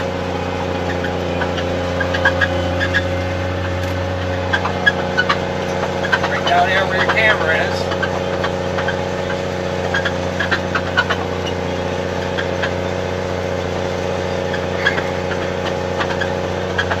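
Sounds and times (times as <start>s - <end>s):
snowcat engine running: 0.0s - 17.0s.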